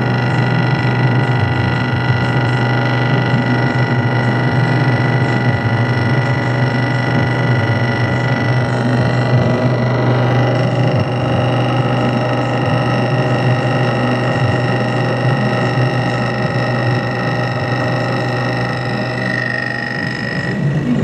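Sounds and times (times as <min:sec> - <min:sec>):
milling machine cutting metal: 0:00.0 - 0:21.0.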